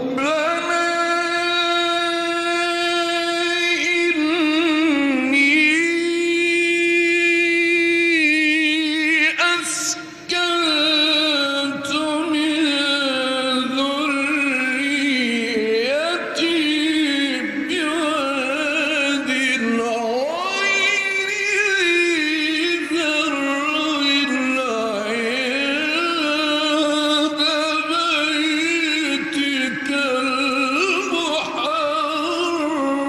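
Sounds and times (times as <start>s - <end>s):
man reciting melodically: 0.0s - 33.0s.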